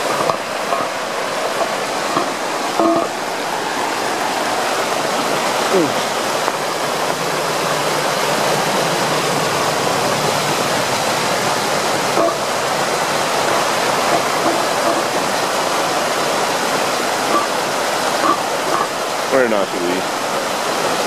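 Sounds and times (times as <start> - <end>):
stormwater rushing along street: 0.0 - 21.0.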